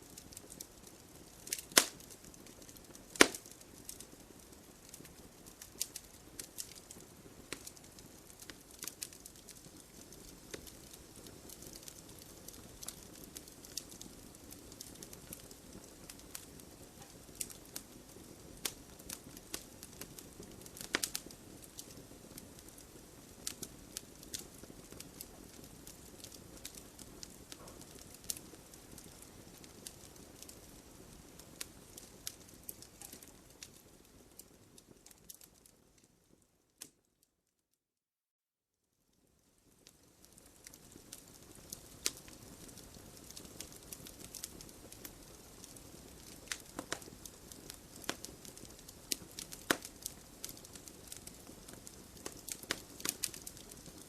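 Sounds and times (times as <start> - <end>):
fire crackling and popping: 0.0 - 37.2, 39.2 - 54.0
flames hissing: 0.1 - 33.9, 40.6 - 54.0.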